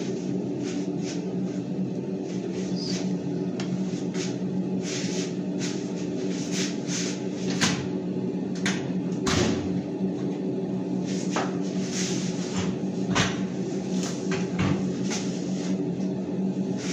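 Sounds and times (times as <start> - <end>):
steady mechanical hum: 0.0 - 16.9.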